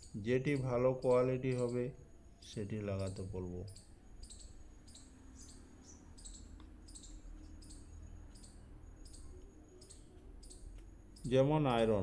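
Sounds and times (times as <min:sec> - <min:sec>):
faint high-pitched chirps: 0:00.0 - 0:12.0.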